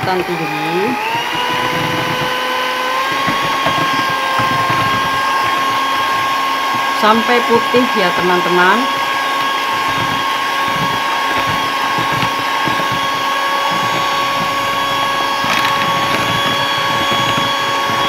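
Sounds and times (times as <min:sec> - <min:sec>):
electric hand mixer whine: 0:00.0 - 0:18.0.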